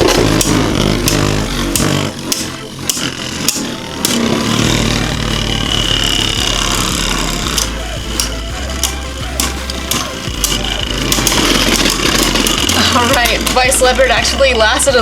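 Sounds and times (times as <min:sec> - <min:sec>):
spinning tops clicking together: 0:00.0 - 0:14.5
spinning tops whirring: 0:00.0 - 0:15.0
thin high whine: 0:00.0 - 0:15.0.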